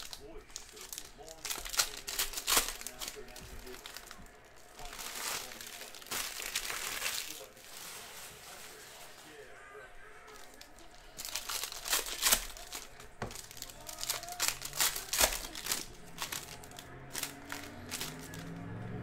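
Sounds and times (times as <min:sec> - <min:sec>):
foil wrapper tearing and crinkling: 0:00.0 - 0:09.4, 0:10.3 - 0:18.6.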